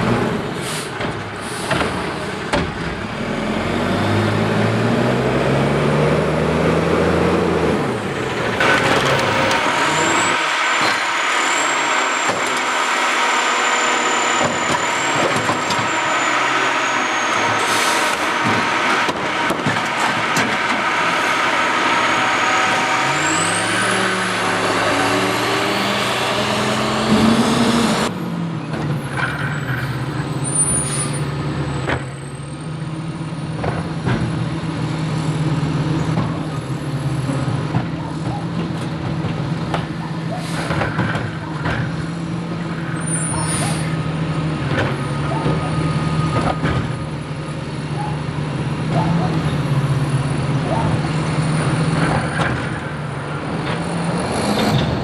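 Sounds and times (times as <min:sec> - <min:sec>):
garbage truck diesel engine: 0:00.0 - 0:55.0
hydraulics working: 0:06.6 - 0:55.0.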